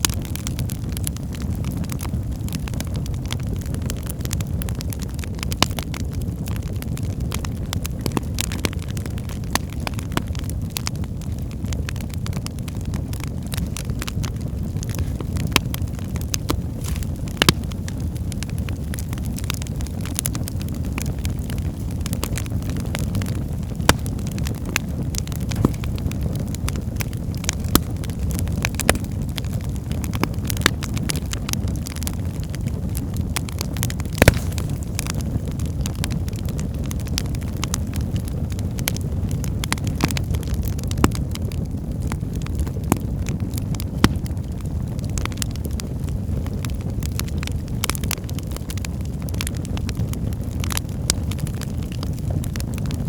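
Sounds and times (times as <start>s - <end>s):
loud fire pops: 0.0s - 53.0s
wood fire crackling: 0.0s - 53.0s.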